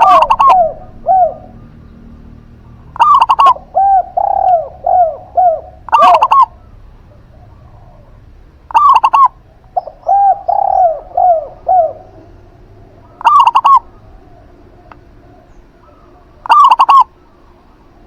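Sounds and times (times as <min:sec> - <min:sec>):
dove soft falling coos: 0:00.0 - 0:01.8, 0:03.0 - 0:17.4
dove rapid loud cooing: 0:00.0 - 0:18.0.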